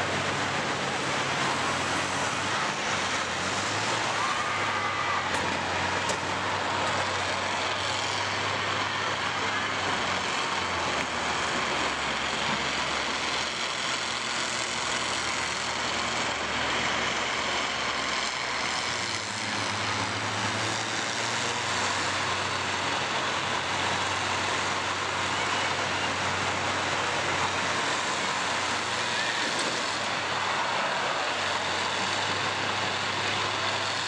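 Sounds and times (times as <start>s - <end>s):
combine harvester engines running: 0.0s - 34.0s.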